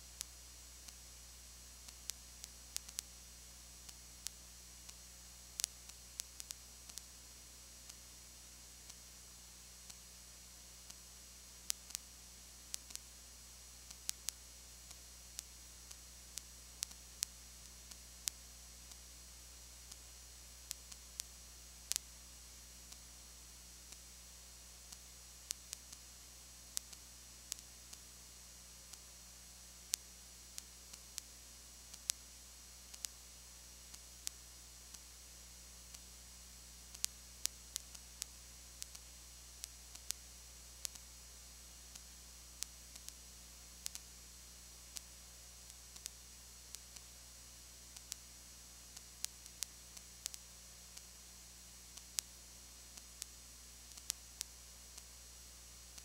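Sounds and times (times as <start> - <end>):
faint recording hiss and hum: 0.0 - 56.0.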